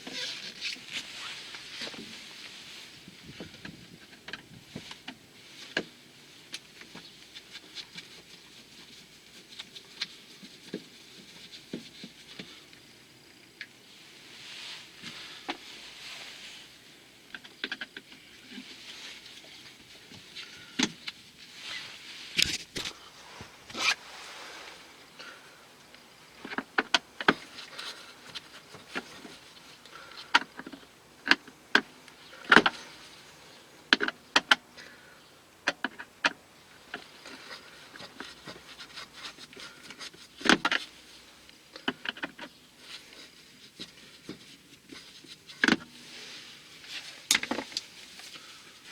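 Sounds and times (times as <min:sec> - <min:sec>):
rustling: 0:00.0 - 0:48.9.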